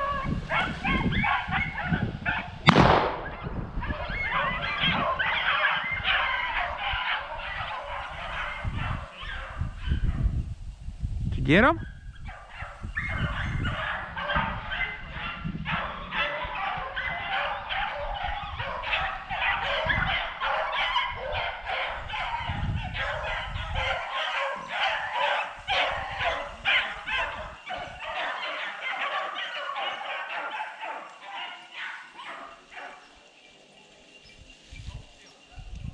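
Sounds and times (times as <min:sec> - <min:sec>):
pack of dogs baying: 0:00.0 - 0:02.6, 0:03.3 - 0:10.2, 0:12.2 - 0:33.3.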